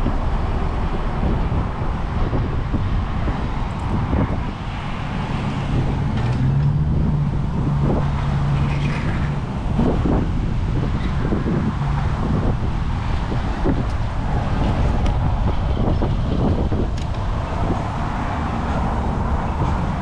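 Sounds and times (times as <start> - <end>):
road traffic noise: 0.0 - 20.0
wind buffeting microphone: 0.0 - 20.0.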